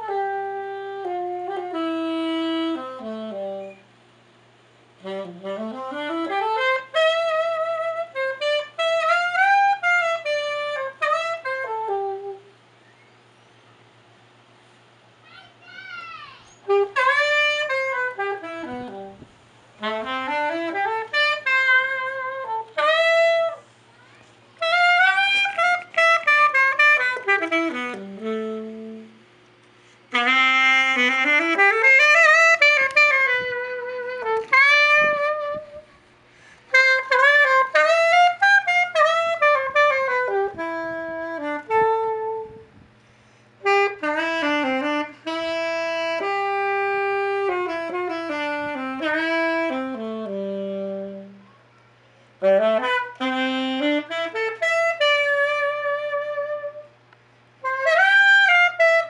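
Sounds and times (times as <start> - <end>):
alto saxophone melody: 0.0 - 13.3, 16.4 - 59.0
faint low hum: 0.0 - 59.0.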